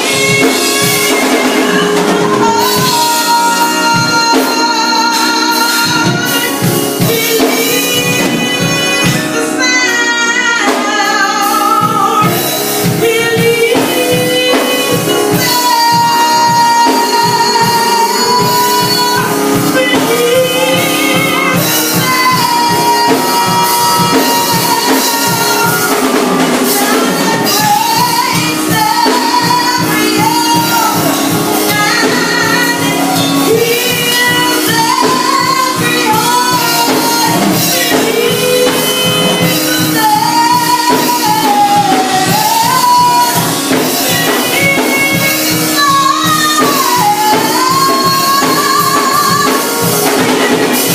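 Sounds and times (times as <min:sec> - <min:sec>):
band with steady beat: 0:00.0 - 0:50.9
woman singing gospel: 0:00.0 - 0:50.9.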